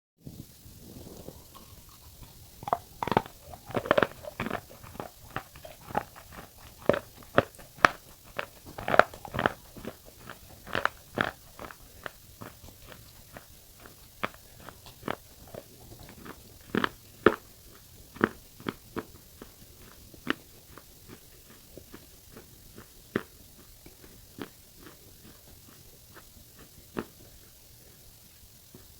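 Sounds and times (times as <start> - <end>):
chewing stone crunches: 1.1 - 27.5.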